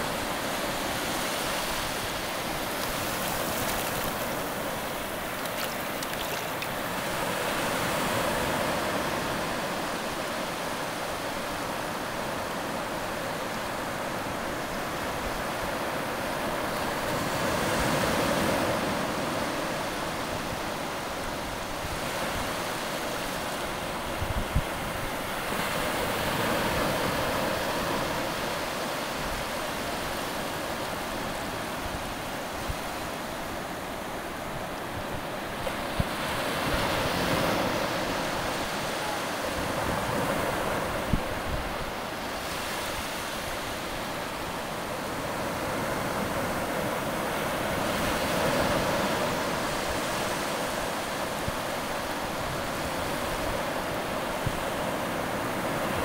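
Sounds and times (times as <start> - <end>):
shallow surf washing over sand: 0.0 - 56.0.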